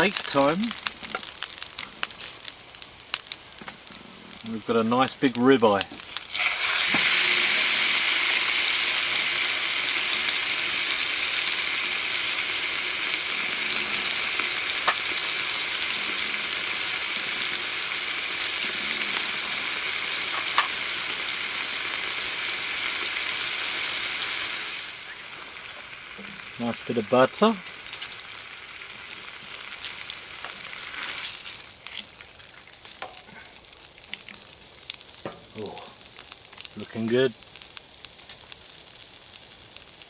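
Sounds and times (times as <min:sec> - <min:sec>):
steak sizzling in a frying pan: 0:00.0 - 0:40.0.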